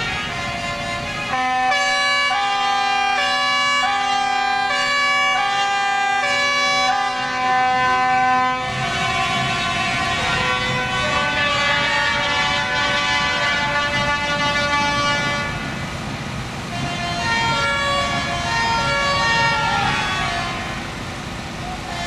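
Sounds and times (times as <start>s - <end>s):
truck air horns blowing: 0.0s - 15.8s, 16.7s - 21.1s, 21.8s - 22.0s.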